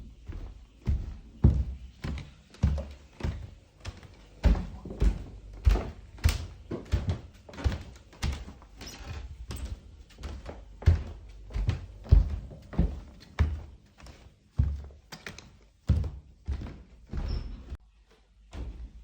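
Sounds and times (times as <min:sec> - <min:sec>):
footsteps with dull thuds: 0:00.0 - 0:19.0.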